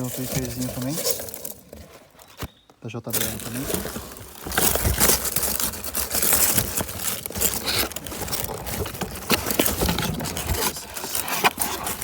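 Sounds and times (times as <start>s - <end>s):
packaging rustling and clicking: 0.0s - 12.0s.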